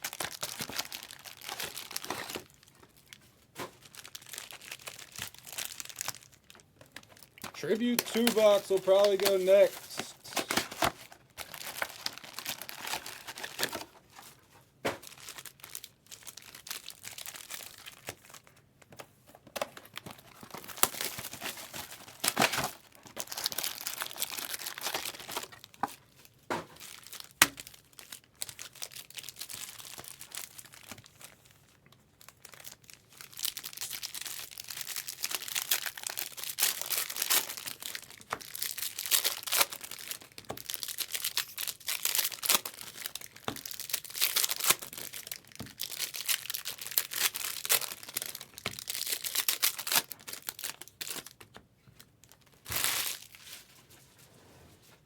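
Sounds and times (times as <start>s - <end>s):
foil wrappers crinkling and tearing: 0.0s - 53.8s.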